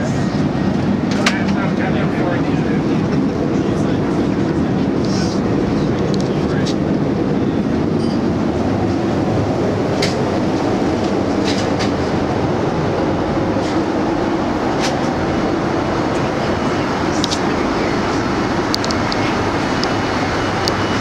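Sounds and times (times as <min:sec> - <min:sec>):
airplane cabin engine rush: 0:00.0 - 0:21.0.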